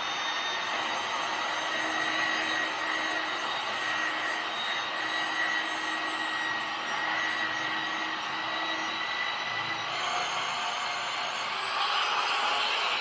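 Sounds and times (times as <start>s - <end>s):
drill motor running: 0.0s - 13.0s
steady whine: 0.0s - 13.0s.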